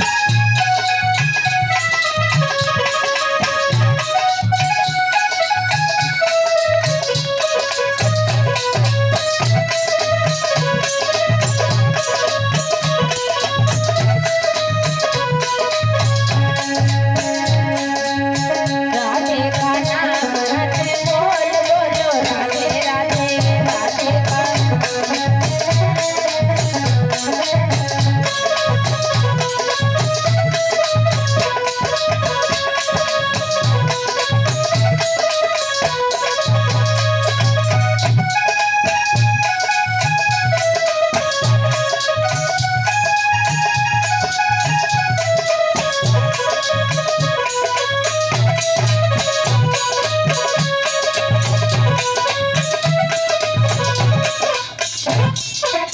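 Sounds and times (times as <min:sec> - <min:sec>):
electronic keyboard melody: 0:00.0 - 0:55.9
hand drum beat: 0:00.0 - 0:55.9.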